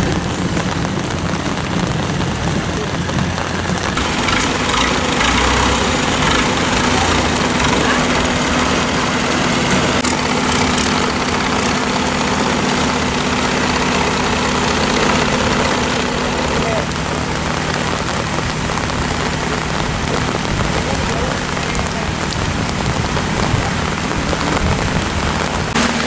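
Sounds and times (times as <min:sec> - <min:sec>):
boat engine idling: 0:00.0 - 0:26.0
constant hiss: 0:00.0 - 0:26.0.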